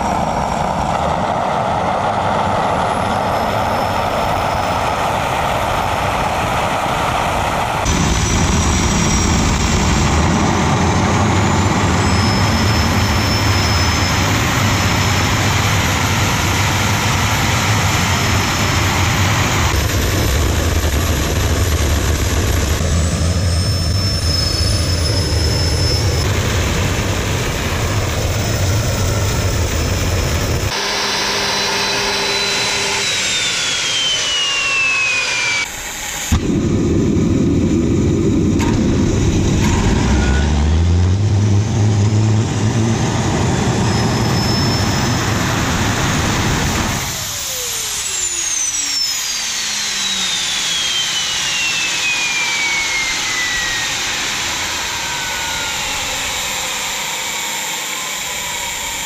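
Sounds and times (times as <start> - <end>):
gas turbine roar and whine: 0.0 - 59.0.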